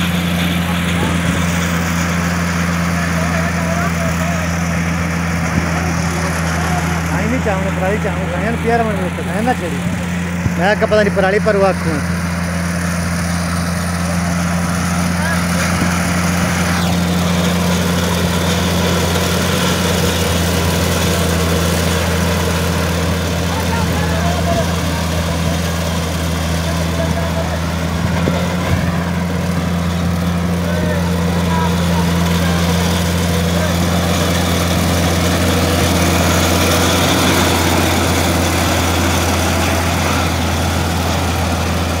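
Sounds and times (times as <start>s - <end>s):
combine harvester engine droning: 0.0s - 42.0s
threshing rattle and rush: 0.0s - 42.0s.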